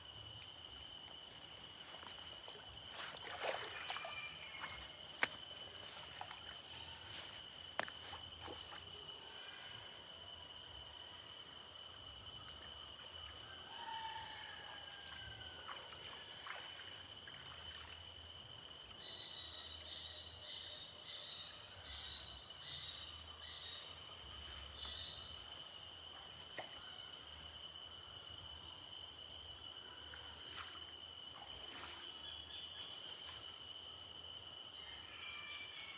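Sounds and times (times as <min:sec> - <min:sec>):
high-pitched insect trills: 0:00.0 - 0:35.9
pulsing insect call: 0:00.0 - 0:35.9.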